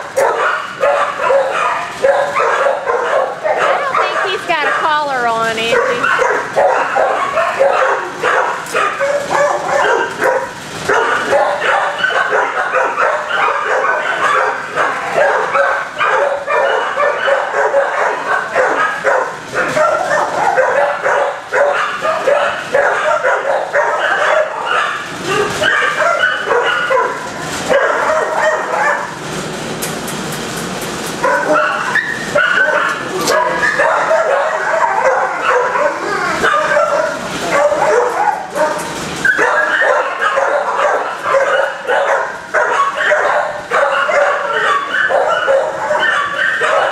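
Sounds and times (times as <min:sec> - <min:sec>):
many dogs barking and yipping: 0:00.0 - 0:29.4, 0:30.4 - 0:46.9.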